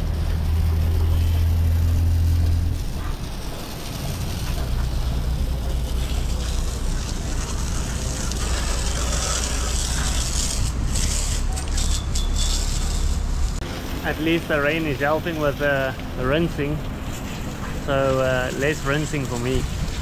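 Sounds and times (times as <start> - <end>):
steady low rumble: 0.0 - 18.0
hose spray hissing on deck: 0.0 - 20.0.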